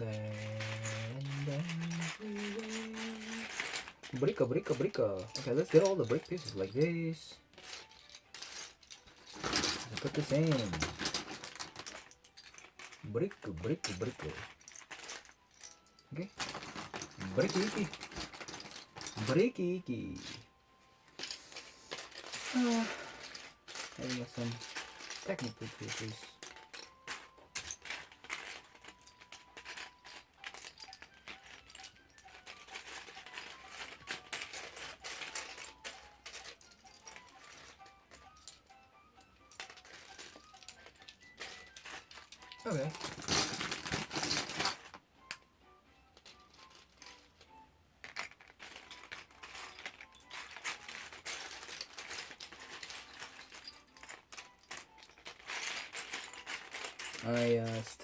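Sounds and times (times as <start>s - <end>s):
plastic pieces clicking and clattering: 0.0s - 45.5s, 46.1s - 58.0s.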